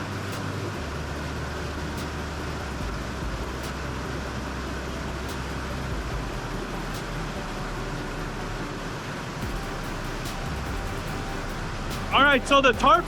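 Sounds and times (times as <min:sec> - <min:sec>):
auto-rickshaw engine drone: 0:00.0 - 0:13.0
heavy rain hissing: 0:00.0 - 0:13.0.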